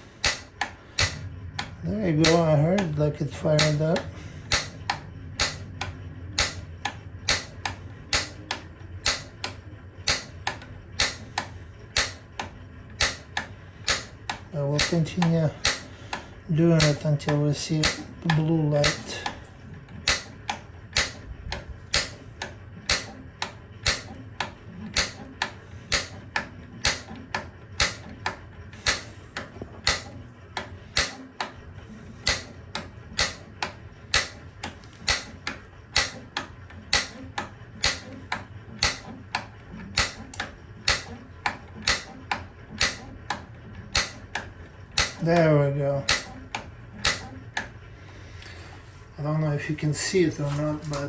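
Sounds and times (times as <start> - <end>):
piezo igniter clicking: 0.0 - 47.8, 50.2 - 51.0.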